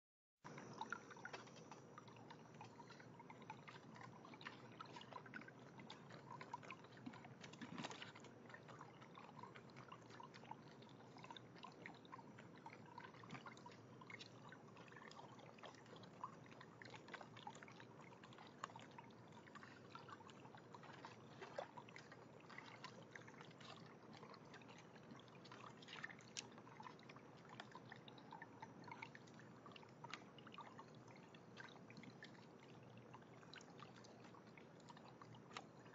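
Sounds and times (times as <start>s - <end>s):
fountain water trickling: 0.5s - 35.9s
small drips and splashes: 0.5s - 35.9s.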